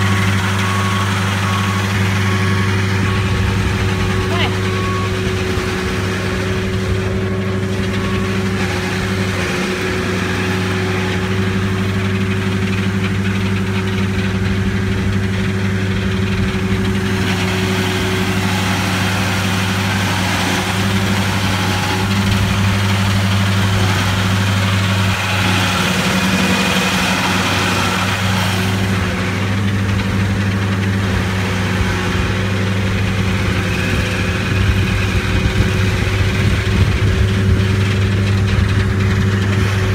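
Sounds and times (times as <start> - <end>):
heavy machine engine humming: 0.0 - 39.9.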